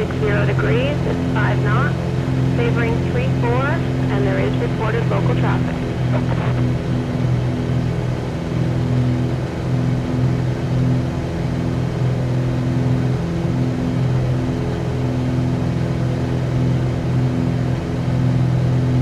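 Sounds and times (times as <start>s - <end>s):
airplane engine and propeller droning: 0.0s - 19.0s.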